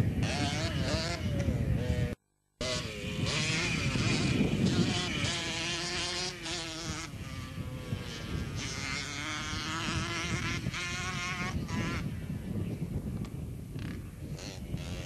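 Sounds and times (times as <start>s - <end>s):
two-stroke motorcycle engine buzzing: 0.0s - 15.0s.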